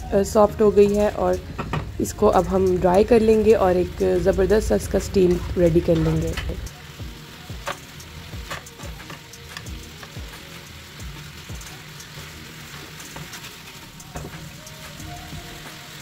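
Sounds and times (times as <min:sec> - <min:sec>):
chicken sizzling in a pan: 0:00.8 - 0:16.0.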